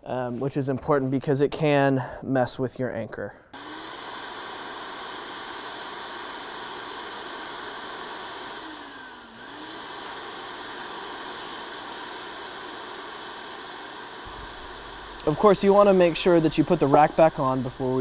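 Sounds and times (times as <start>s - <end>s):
vacuum cleaner running: 3.6s - 18.0s.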